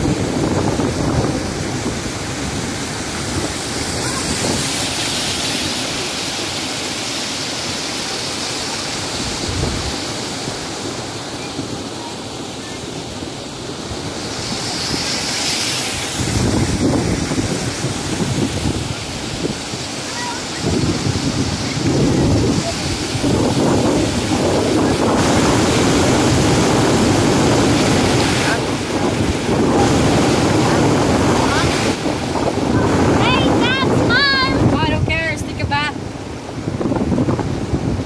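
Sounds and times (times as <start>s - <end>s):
wind buffeting microphone: 0.0s - 6.4s, 9.0s - 12.0s, 13.0s - 38.0s
river water rushing over weir: 0.0s - 38.0s.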